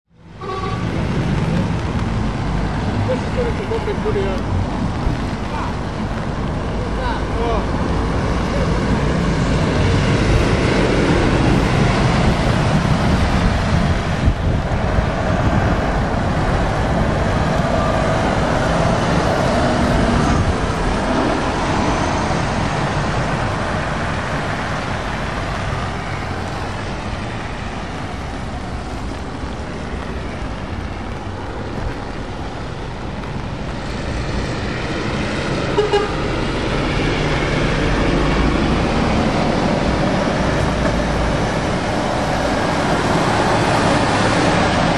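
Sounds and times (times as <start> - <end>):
distant traffic: 0.1 - 44.9
tyres on wet road: 0.1 - 44.9
truck diesel engine passing: 0.3 - 44.9.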